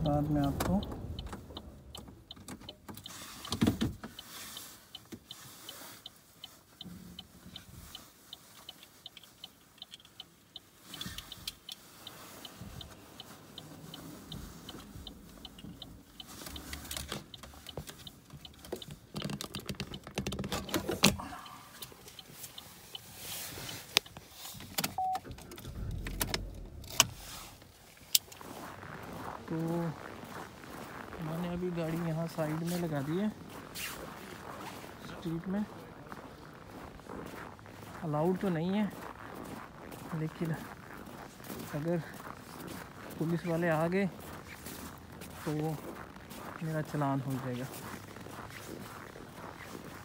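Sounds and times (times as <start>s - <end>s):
faint regular ticking: 0.0s - 20.5s, 21.1s - 50.0s.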